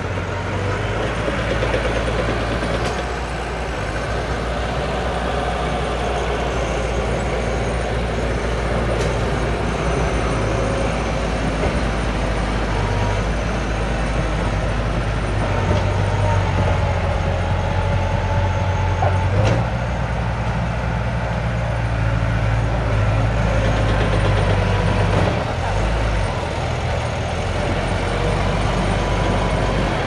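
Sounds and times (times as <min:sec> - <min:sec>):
diesel machinery engine drone: 0:00.0 - 0:30.0.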